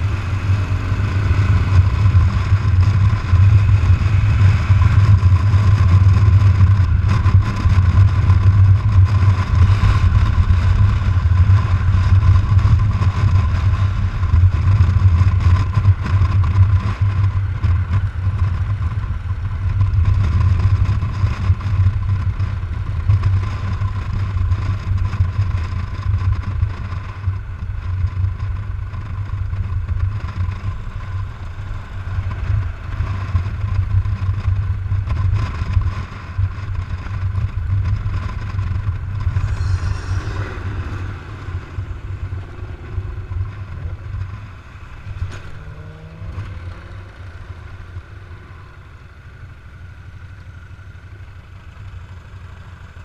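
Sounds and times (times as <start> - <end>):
motorcycle engine rumbling: 0.0 - 53.0
road and wind noise: 0.0 - 53.0.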